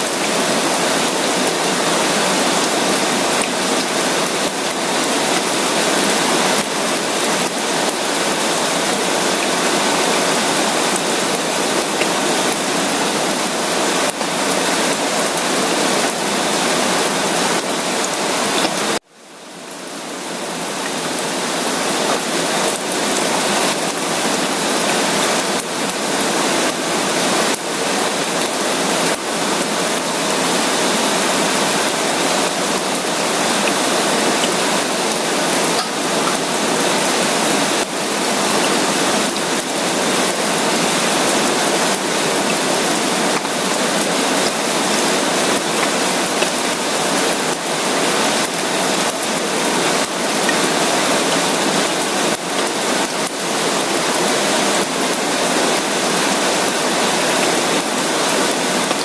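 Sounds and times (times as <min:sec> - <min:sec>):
dense rain: 0:00.0 - 0:59.0.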